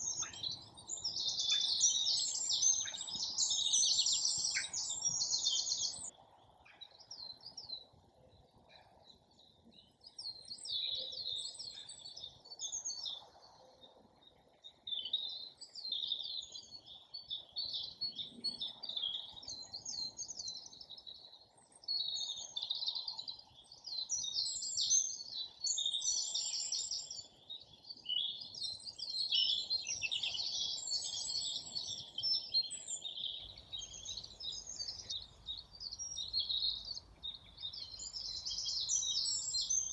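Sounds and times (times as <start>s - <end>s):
faint low background noise: 0.0s - 39.9s
songbirds singing: 0.0s - 39.9s.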